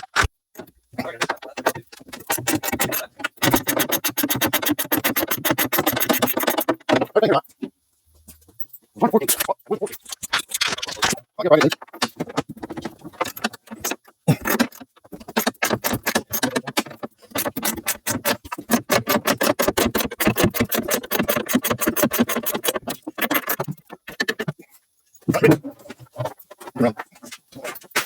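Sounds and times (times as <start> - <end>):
rapid metallic clicking and rattling: 0.0 - 7.2, 8.4 - 24.7.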